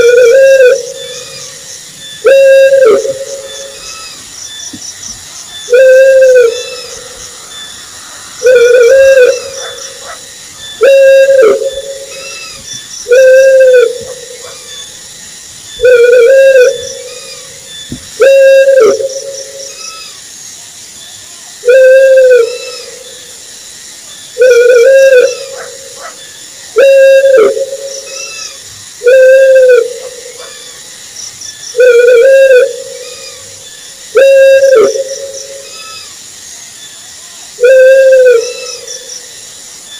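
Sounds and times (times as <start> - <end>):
owl hooting: 0.0 - 4.3, 5.5 - 15.0, 15.8 - 20.2, 21.6 - 23.3, 24.4 - 30.9, 31.7 - 36.2, 37.6 - 39.1
faint high-pitched chirping: 0.0 - 39.9.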